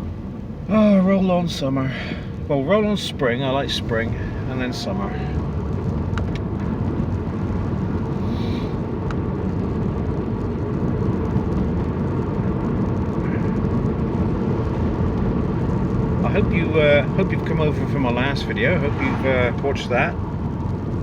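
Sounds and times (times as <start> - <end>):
engine and tyre rumble: 0.0 - 21.0.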